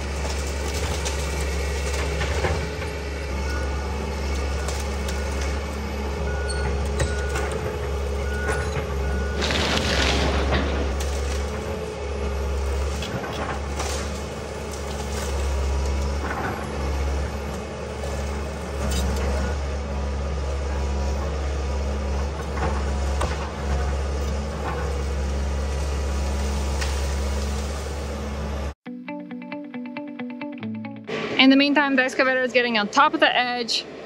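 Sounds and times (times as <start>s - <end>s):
diesel engine running: 0.0s - 28.8s, 31.1s - 34.0s.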